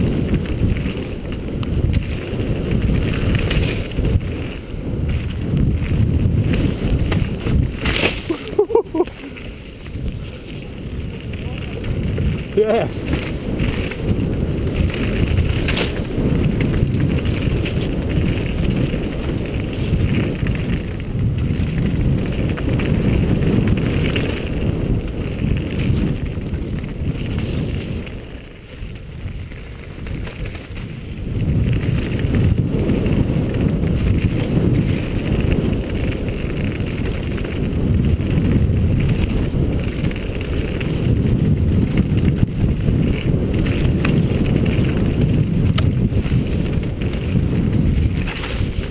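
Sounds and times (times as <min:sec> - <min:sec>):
mountain bike rumbling over rocks: 0:00.0 - 0:48.9
wind buffeting microphone: 0:00.0 - 0:48.9.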